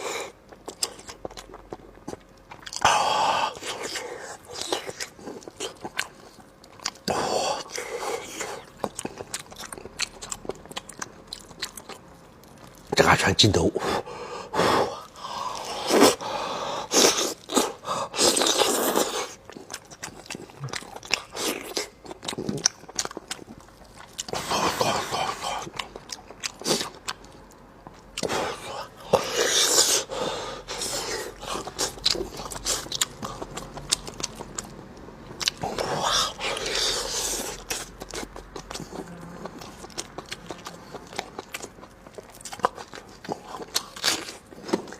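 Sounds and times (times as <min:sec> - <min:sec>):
wet chewing and mouth clicks: 0:00.0 - 0:13.1, 0:16.8 - 0:44.9.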